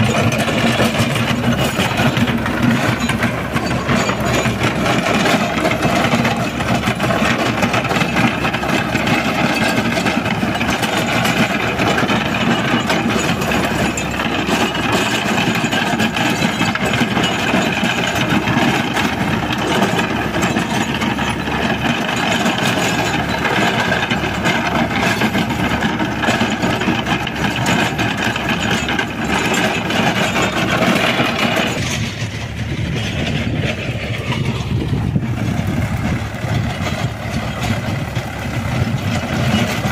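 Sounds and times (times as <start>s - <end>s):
tiller rattling clatter: 0.0s - 39.9s
tractor diesel engine under load: 0.0s - 39.9s.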